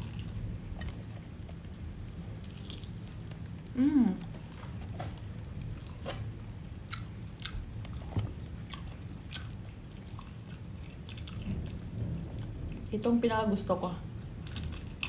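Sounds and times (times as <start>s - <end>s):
person chewing crispy food: 0.0s - 12.8s, 14.2s - 15.0s
steady low hum: 0.0s - 15.0s.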